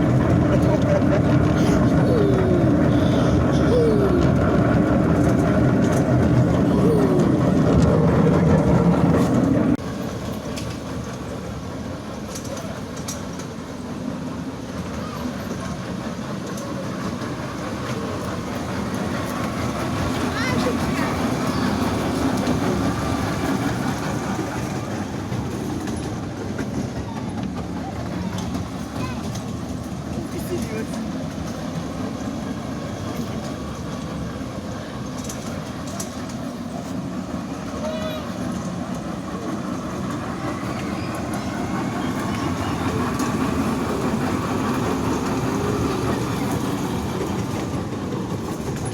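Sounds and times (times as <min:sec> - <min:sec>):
toy train rumbling on track: 0:00.0 - 0:48.9.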